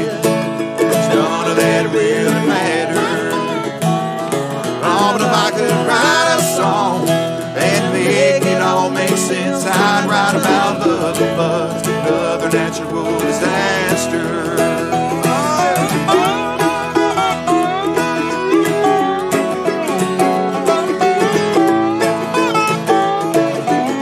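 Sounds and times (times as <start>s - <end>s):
acoustic guitar: 0.0s - 24.0s
dobro sliding lead line: 0.0s - 24.0s
fiddle: 0.0s - 24.0s
mandolin: 0.0s - 24.0s.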